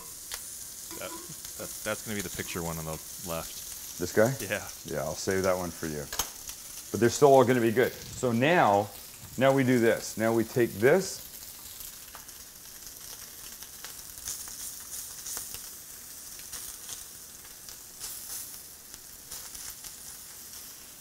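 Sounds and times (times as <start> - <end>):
meat sizzling on a grill pan: 0.0 - 21.0.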